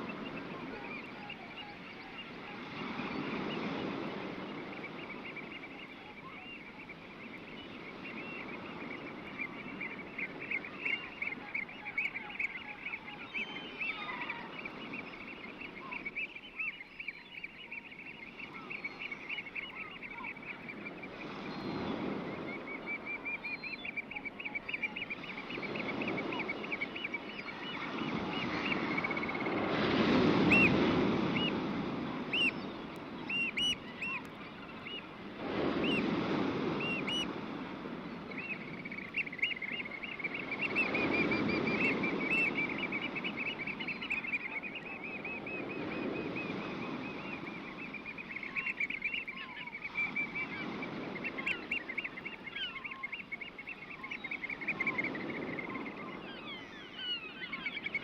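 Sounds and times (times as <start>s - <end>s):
waves breaking on a shore: 0.0s - 58.0s.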